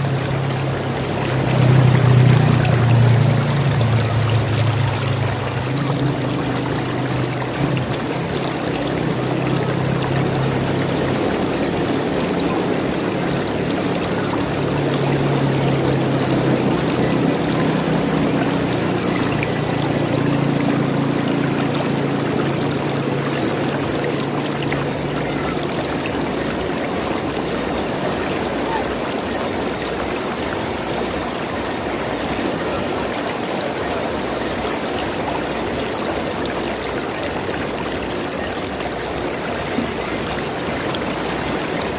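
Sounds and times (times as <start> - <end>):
water gurgling and splashing: 0.0 - 41.9.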